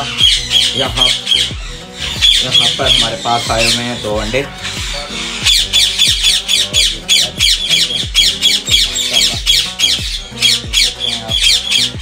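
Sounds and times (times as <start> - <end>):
background music with low beat: 0.0 - 12.0
parakeet screeching: 0.0 - 12.0.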